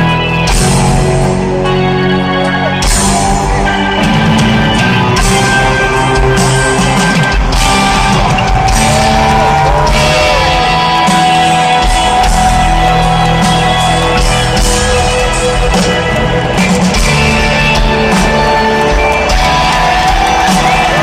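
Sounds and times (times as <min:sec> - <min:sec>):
distorted electric guitar: 0:00.0 - 0:21.0
live rock band: 0:00.0 - 0:21.0.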